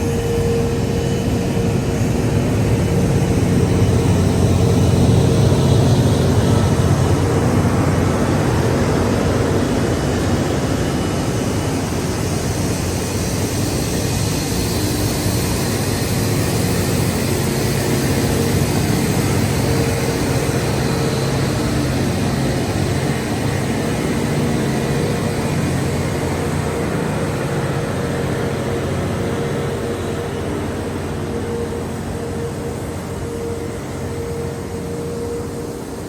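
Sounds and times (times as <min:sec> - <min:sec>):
diesel engine drone: 0:00.0 - 0:36.0.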